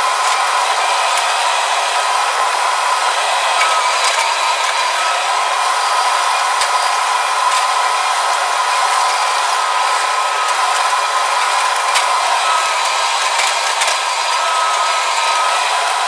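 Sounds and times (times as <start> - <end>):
machine whirring with whine: 0.0 - 16.0.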